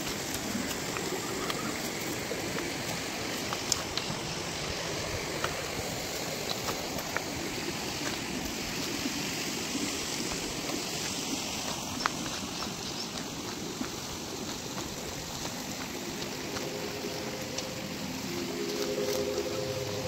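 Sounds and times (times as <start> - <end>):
stream rushing: 0.0 - 20.0.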